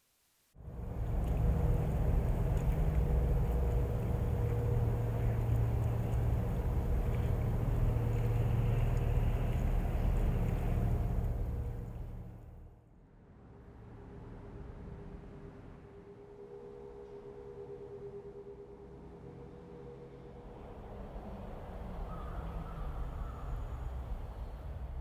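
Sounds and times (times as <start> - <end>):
faint steady hum: 0.0 - 25.0
low rumbling drone: 0.6 - 25.0.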